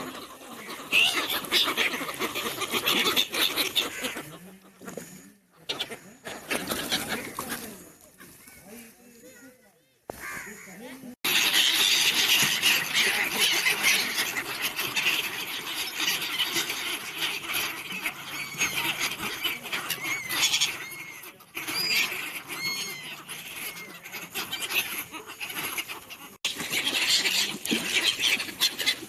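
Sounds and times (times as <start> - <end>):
flock of birds chattering: 0.0 - 29.0.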